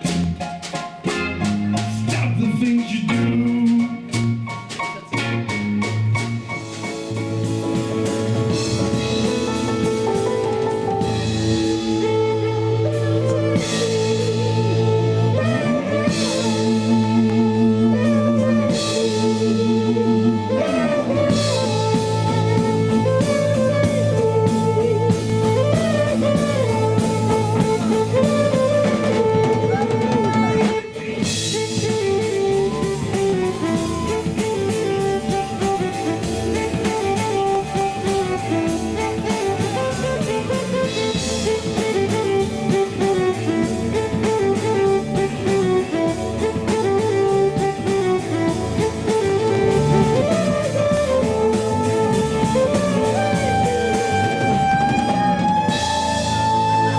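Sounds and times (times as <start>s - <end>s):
drum kit: 0.0s - 56.9s
guitar with sliding notes: 0.0s - 56.9s.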